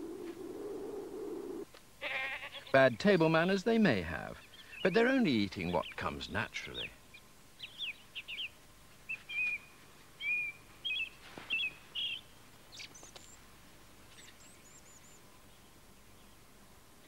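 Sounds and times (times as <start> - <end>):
songbird chirping: 2.6 - 16.6.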